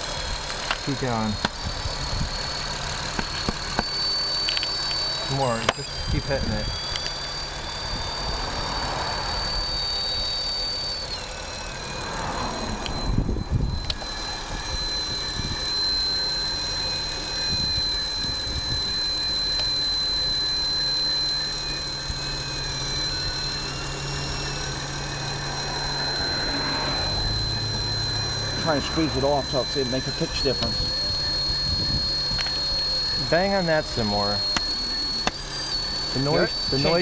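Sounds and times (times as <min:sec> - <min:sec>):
car engine running: 0:00.0 - 0:17.8, 0:20.5 - 0:37.0
high-pitched air leak whistle: 0:00.0 - 0:37.0.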